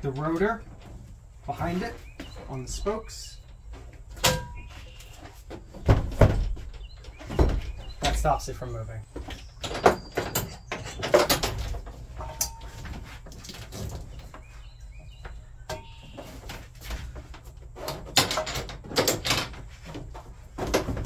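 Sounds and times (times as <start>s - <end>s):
knocks and clatter of gear: 0.0s - 21.0s.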